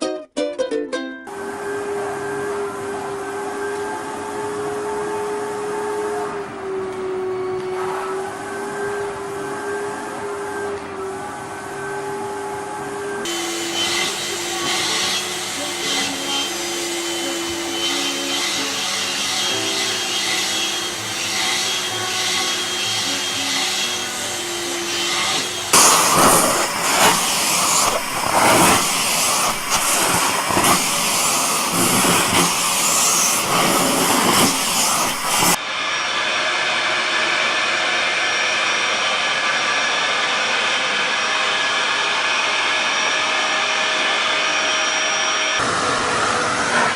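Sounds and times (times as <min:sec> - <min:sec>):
vacuum cleaner whirring: 0:01.3 - 0:46.9.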